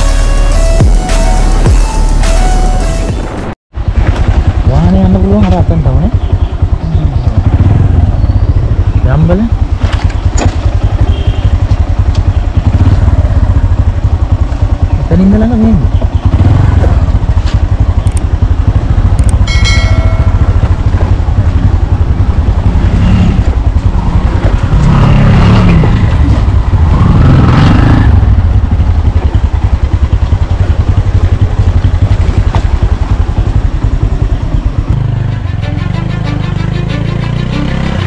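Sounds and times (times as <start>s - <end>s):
motorcycle engine running: 3.2s - 38.0s.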